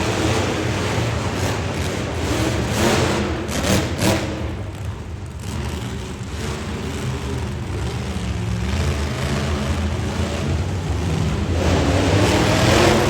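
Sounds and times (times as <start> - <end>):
monster truck engine rumbling: 0.0 - 13.0.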